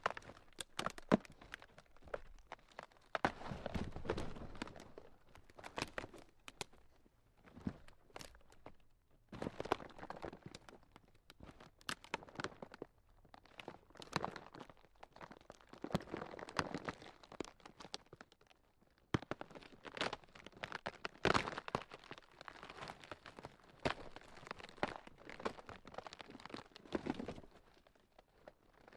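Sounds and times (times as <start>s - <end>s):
ground cracking and crunching: 0.0s - 28.9s.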